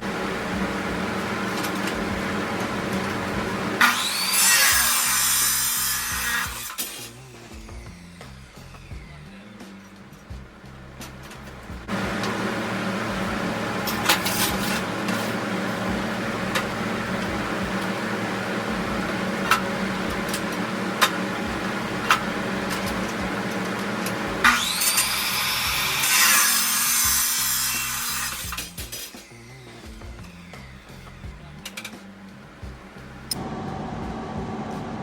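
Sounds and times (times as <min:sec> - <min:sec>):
motor spinning up with whine: 0:00.0 - 0:09.4, 0:10.3 - 0:31.5, 0:32.6 - 0:35.0
power saw cutting: 0:00.0 - 0:09.4, 0:10.7 - 0:29.9.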